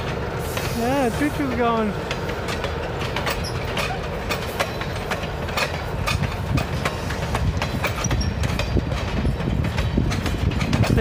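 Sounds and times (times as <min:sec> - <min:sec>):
railway coaches rumbling past: 0:00.0 - 0:11.0
wheels clicking over rail joints: 0:00.0 - 0:11.0.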